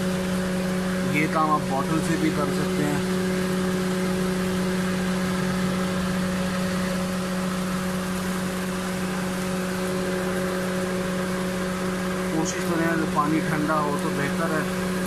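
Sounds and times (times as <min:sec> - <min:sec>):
car idling with mechanical hum: 0:00.0 - 0:15.0.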